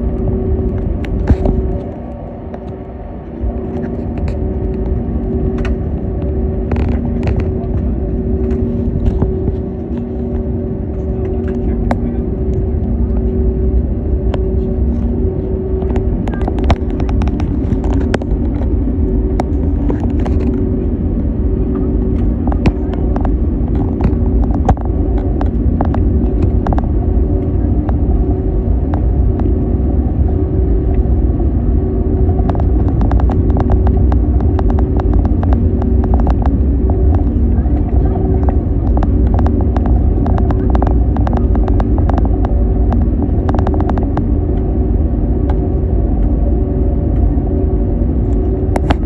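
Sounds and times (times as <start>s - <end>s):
aircraft cabin rumble: 0.0s - 49.0s
steady hum tones: 0.0s - 49.0s.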